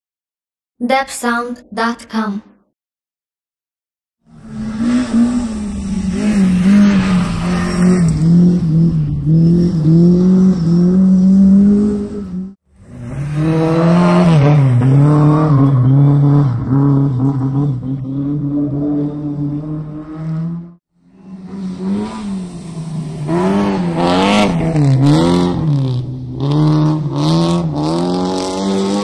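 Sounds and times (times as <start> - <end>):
rally car engines revving: 4.3 - 29.0.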